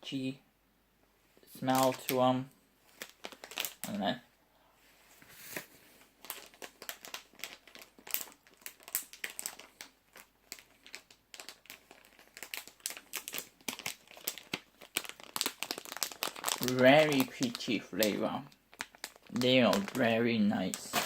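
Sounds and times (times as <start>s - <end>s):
plastic packaging crinkling: 1.5s - 4.0s, 5.3s - 21.0s.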